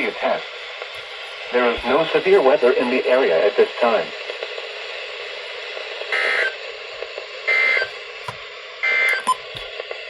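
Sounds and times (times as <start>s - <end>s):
radio receiver hiss: 0.0s - 10.0s.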